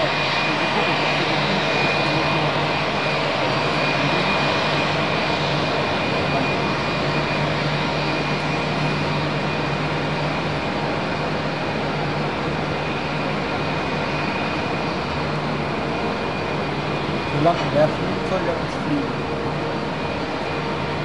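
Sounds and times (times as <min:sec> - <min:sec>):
high engine whine: 0:00.0 - 0:21.0
jet engines roaring: 0:00.0 - 0:21.0.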